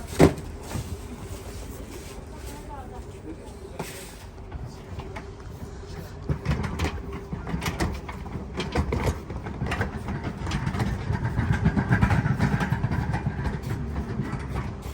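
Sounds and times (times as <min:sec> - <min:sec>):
low engine rumble: 0:00.0 - 0:14.9.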